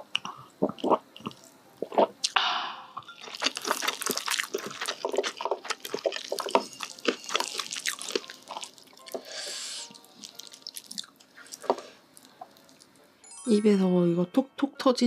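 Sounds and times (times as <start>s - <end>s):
wet chewing and mouth sounds: 0.0s - 2.4s, 3.0s - 13.0s.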